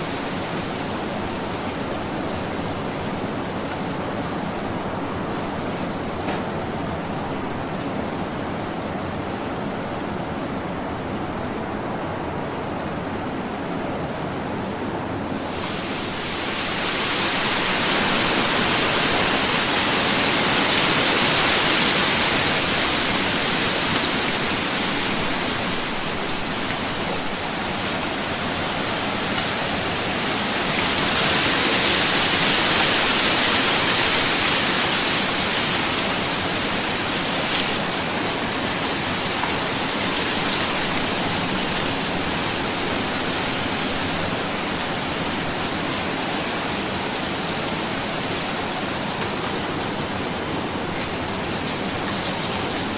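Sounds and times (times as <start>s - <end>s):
ocean waves washing onto beach: 0.0s - 52.9s.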